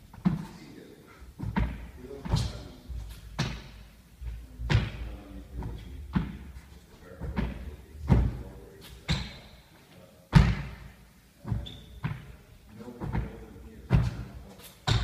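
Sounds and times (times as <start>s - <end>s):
hands and feet thudding on wood: 1.3s - 9.5s, 10.3s - 15.0s.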